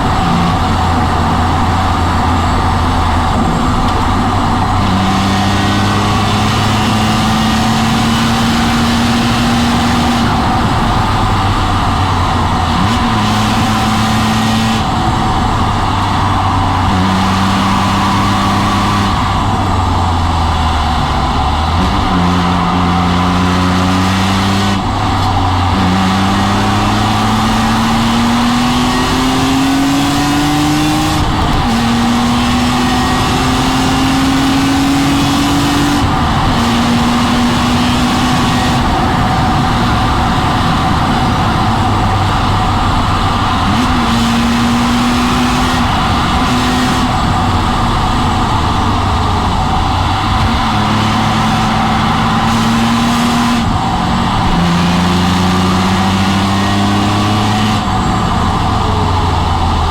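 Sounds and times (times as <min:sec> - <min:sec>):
car engine revving: 0:00.0 - 0:59.9
wind and road noise: 0:00.0 - 0:59.9.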